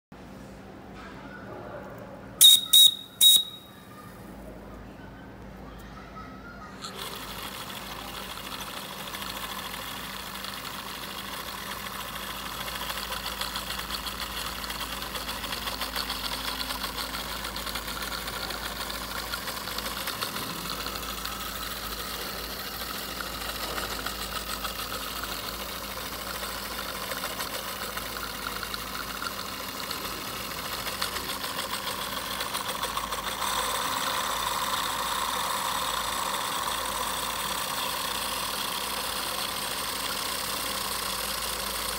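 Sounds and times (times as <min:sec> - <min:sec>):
model steam engine clattering: 0:06.8 - 0:41.9.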